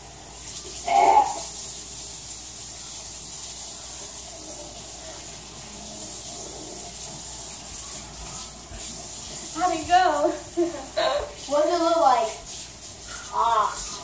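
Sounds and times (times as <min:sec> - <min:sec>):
faucet running into sink: 0:00.0 - 0:14.0.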